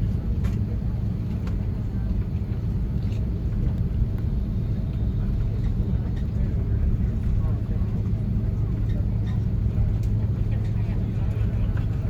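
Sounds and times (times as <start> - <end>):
low rumble in aircraft cabin: 0.0 - 12.0.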